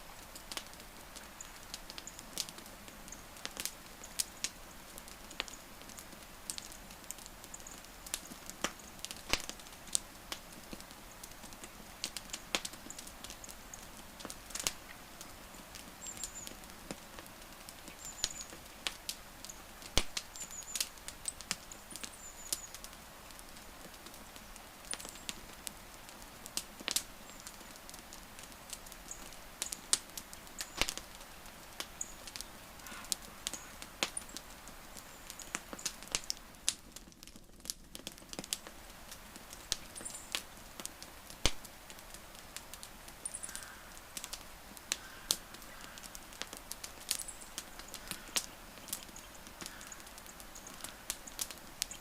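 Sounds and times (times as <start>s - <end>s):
campfire crackling: 0.0s - 52.0s
faint steady hiss: 0.0s - 52.0s.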